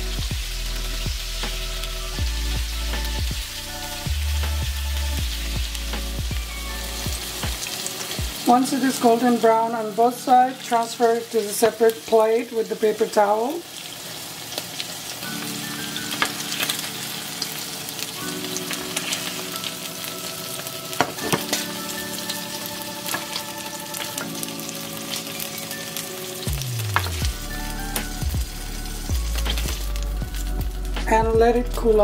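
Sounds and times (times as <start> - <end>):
soft background music: 0.0 - 12.7, 13.4 - 32.0
chicken sizzling in a pan: 0.0 - 32.0.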